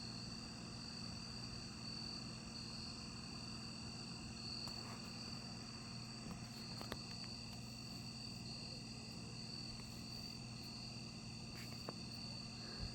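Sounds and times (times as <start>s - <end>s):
faint low hum: 0.0s - 12.9s
high-pitched insect chorus: 0.0s - 12.9s.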